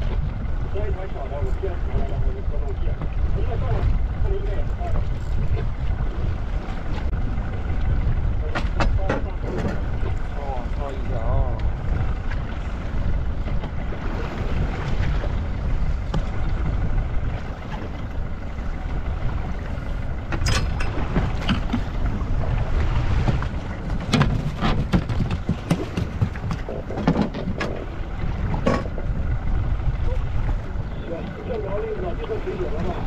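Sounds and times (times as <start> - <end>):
water rumble against boat: 0.0 - 33.0
wind: 0.0 - 33.0.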